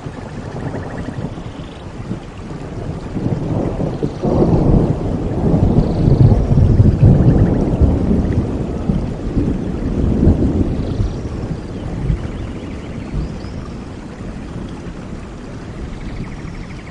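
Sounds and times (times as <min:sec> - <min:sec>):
rain hiss: 0:00.0 - 0:16.9
thunder rumbling: 0:00.0 - 0:16.9.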